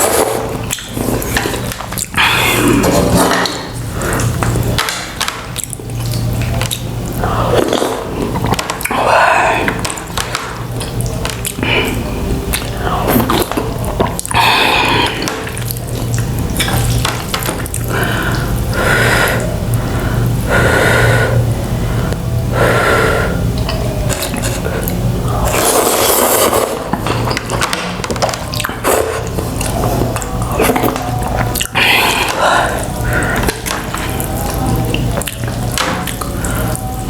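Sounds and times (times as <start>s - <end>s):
noodles being slurped: 0.0s - 19.4s, 24.1s - 37.0s
chewing: 0.0s - 20.5s, 23.5s - 37.0s.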